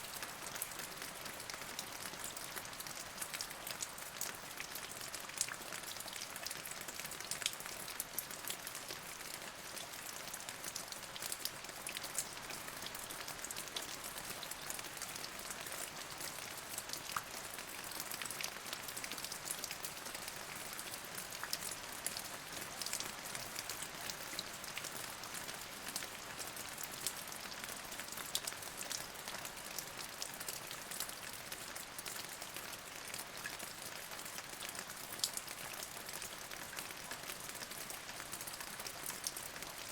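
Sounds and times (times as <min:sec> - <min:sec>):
raindrops ticking on surface: 0:00.2 - 0:39.9.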